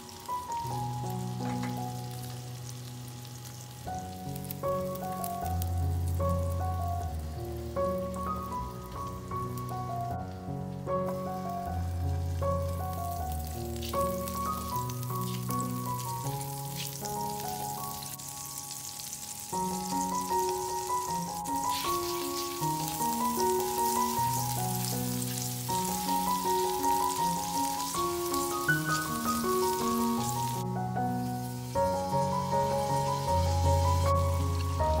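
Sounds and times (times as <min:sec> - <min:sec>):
butter sizzling in frying pan: 0:00.0 - 0:35.0
slow instrumental music: 0:00.0 - 0:35.0.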